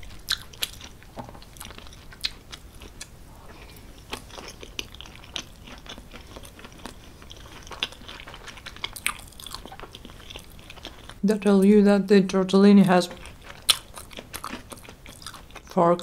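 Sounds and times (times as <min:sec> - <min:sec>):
close chewing of pasta: 0:00.0 - 0:11.2, 0:12.2 - 0:16.0.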